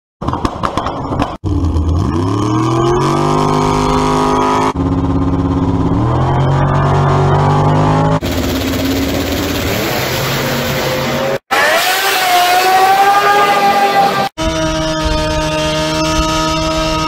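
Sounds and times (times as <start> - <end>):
drag car engine revving: 1.4 - 17.0.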